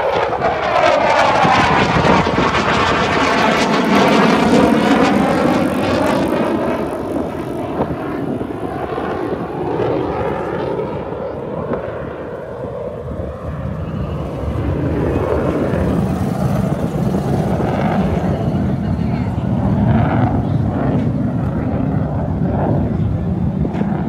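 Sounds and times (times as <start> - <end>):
jet flying past overhead: 0.0 - 24.0.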